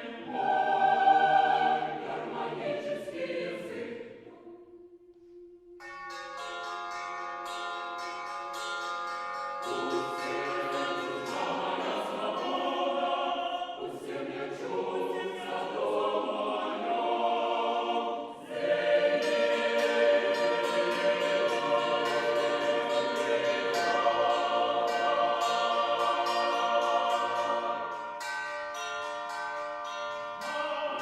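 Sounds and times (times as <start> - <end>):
choir singing sustained chords: 0.0 - 5.4, 9.7 - 31.0.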